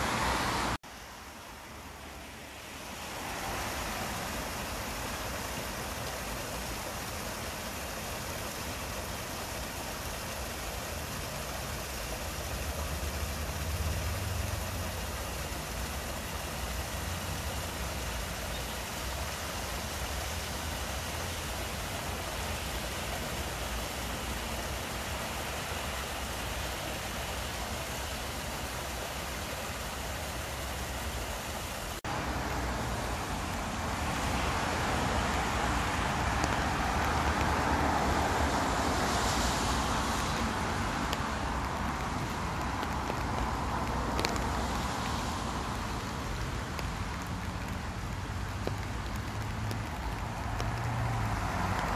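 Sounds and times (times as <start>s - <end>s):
distant city traffic rumble: 0.0s - 51.9s
rain hissing: 0.0s - 51.9s
stream trickling over rocks: 0.0s - 51.9s
traffic on wet road: 0.0s - 51.9s.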